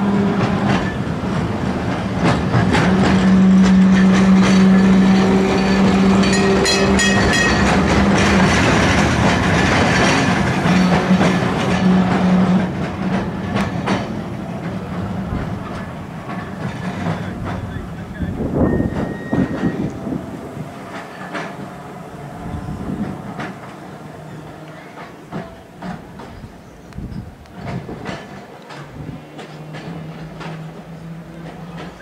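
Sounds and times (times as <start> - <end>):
electric tram humming: 0.0 - 32.0
tram wheels clicking on rail joints: 0.0 - 32.0.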